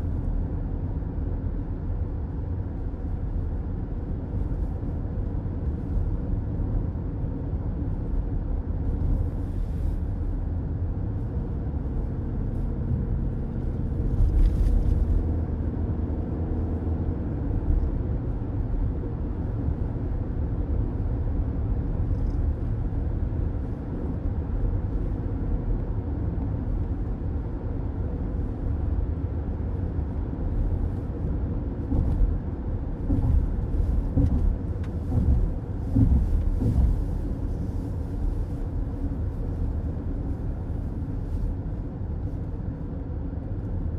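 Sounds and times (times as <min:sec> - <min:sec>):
car interior road noise: 0:00.0 - 0:43.9.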